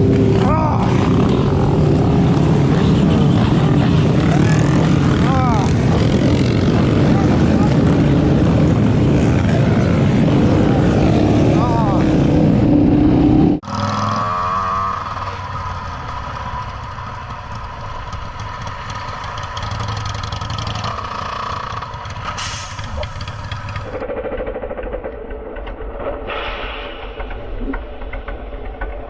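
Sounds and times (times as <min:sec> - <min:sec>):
motorcycle engine running: 0:00.0 - 0:26.1.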